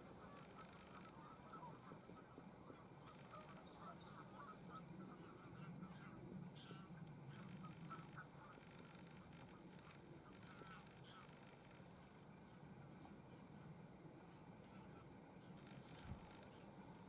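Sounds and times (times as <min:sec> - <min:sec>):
distant birds calling: 0:00.0 - 0:12.3, 0:14.3 - 0:17.0.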